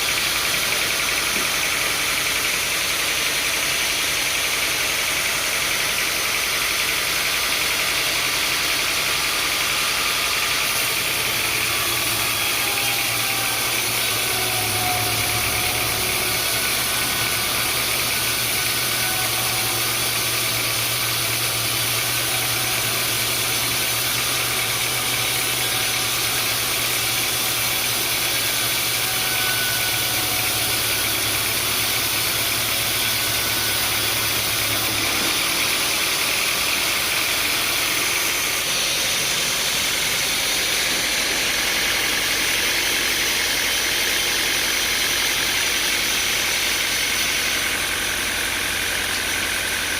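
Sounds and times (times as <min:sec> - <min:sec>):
deeper machine hum: 0:00.0 - 0:49.9
sawmill machinery humming: 0:00.0 - 0:49.9.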